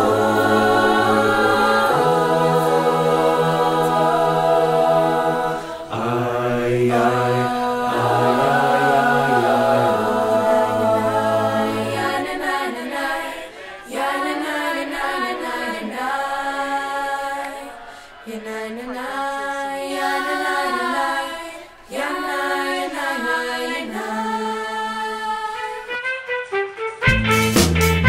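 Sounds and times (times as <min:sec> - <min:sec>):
voices singing a cappella chant: 0:00.0 - 0:26.0.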